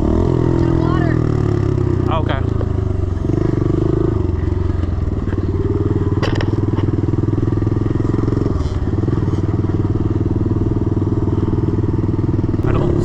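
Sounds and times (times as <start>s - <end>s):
pit bike engine running hard: 0.0s - 13.0s.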